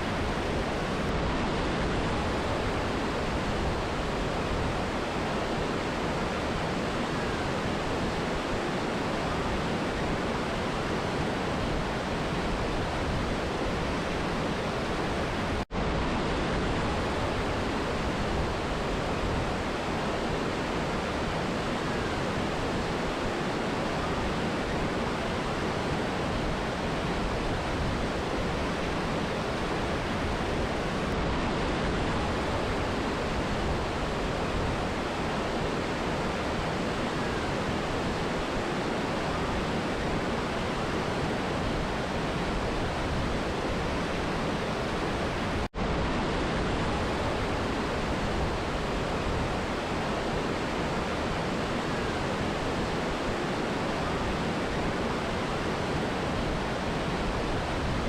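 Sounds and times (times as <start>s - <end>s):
river and waterfall rushing: 0.0s - 58.0s.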